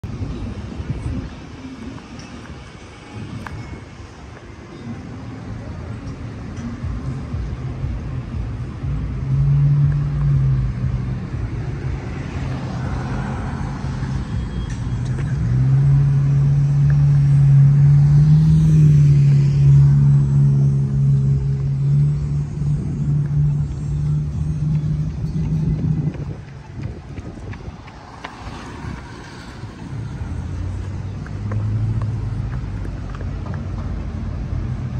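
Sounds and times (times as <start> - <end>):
cars driving past: 0.0 - 34.9.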